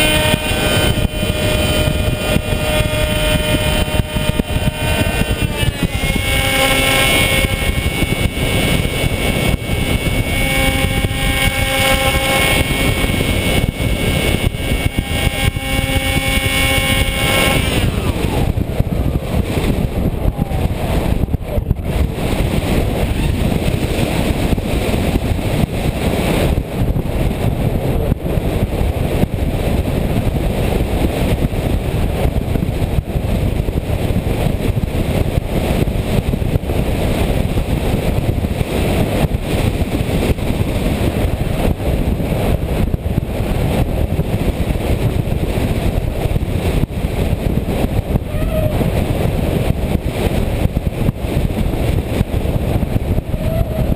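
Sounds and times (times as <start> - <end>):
model airplane motor and propeller: 0.0 - 53.9
wind rushing over microphone: 0.0 - 53.9.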